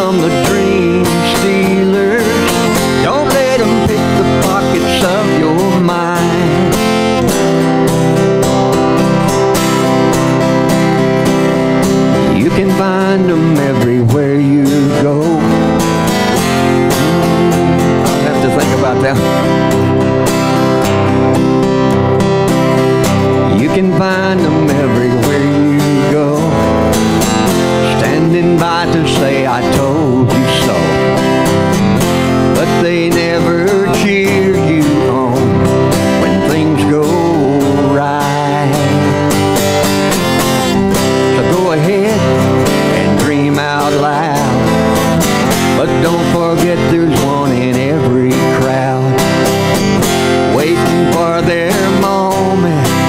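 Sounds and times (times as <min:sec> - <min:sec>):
acoustic guitar strumming: 0:00.0 - 0:53.0
man singing: 0:00.0 - 0:53.0.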